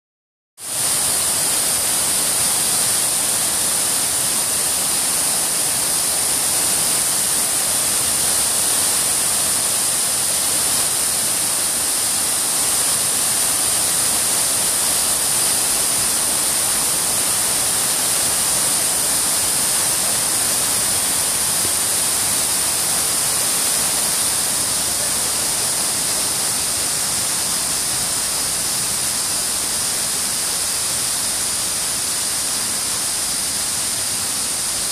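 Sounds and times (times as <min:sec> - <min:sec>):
water splashing down stone wall: 0:00.8 - 0:31.1.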